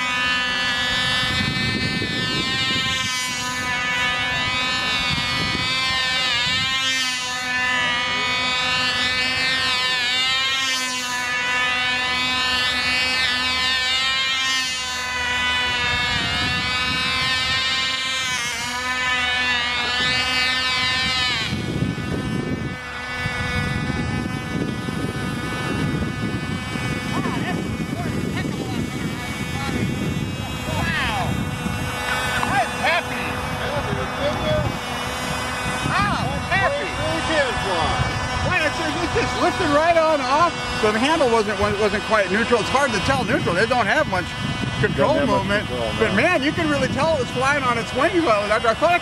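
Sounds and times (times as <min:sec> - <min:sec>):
low rough noise: 0:00.0 - 0:49.0
model plane engine whining: 0:00.0 - 0:49.0.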